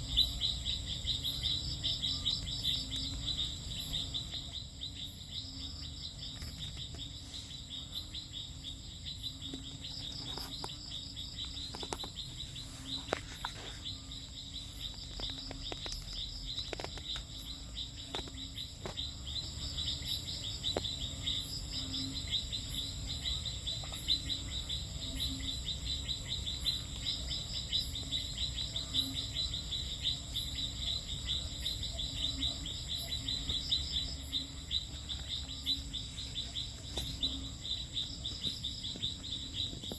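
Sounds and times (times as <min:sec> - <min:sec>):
crickets chirping: 0:00.0 - 0:39.9
pulsing insect call: 0:00.0 - 0:39.9
steady high insect whine: 0:00.0 - 0:39.9.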